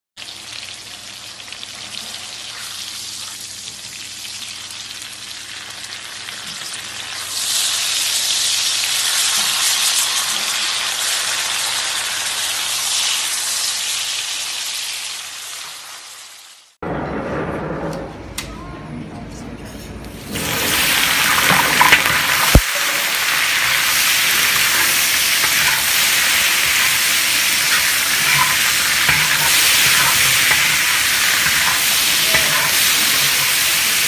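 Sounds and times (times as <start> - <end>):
meat sizzling in frying pan: 0.2 - 16.8, 20.2 - 34.0.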